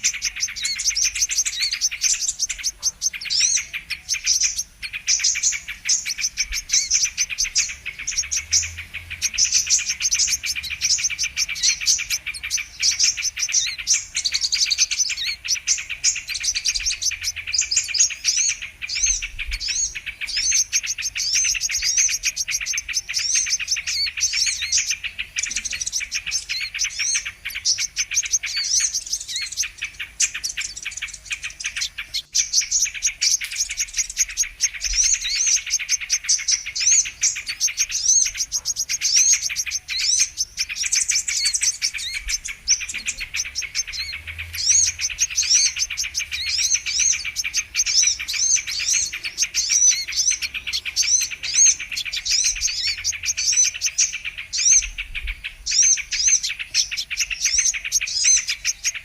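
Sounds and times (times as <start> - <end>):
sunbirds chirping and trilling: 0.0 - 59.0.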